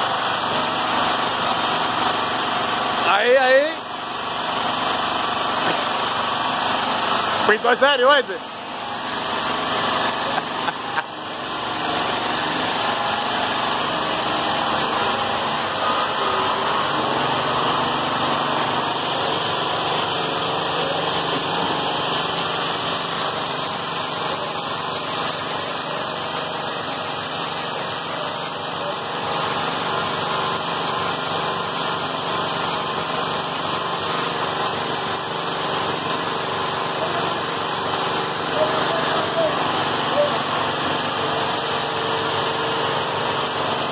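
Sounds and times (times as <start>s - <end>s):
small motor running: 0.0s - 43.9s.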